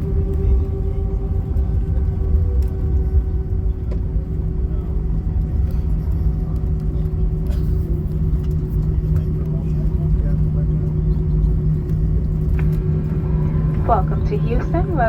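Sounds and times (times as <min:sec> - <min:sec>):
engine hum: 0:00.0 - 0:15.0
low rumble of engines and wheels: 0:00.0 - 0:15.0.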